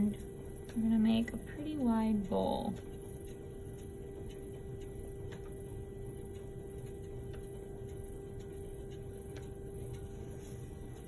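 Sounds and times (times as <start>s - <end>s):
faint regular ticks: 0.0s - 11.0s
pottery wheel motor hum: 0.0s - 11.0s.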